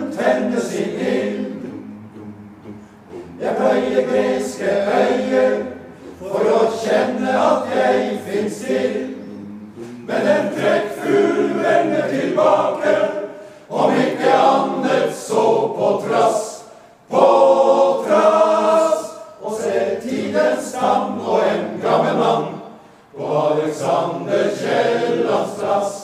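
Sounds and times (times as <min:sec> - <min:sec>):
men's choir singing: 0:00.0 - 0:26.0.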